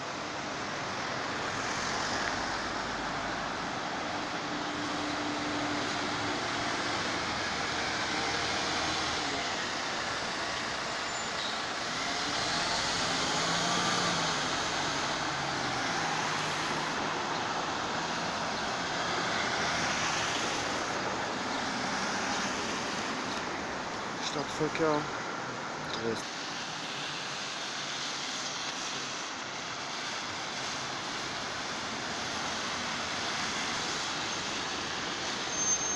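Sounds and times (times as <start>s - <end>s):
bus driving off: 0.0s - 35.9s
cars passing close by: 0.0s - 35.9s.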